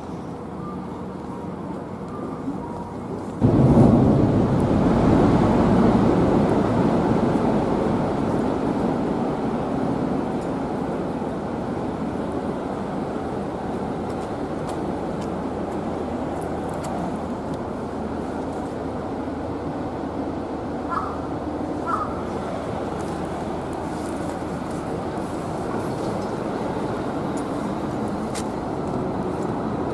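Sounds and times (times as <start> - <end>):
passing train rumbling: 0.0 - 29.9.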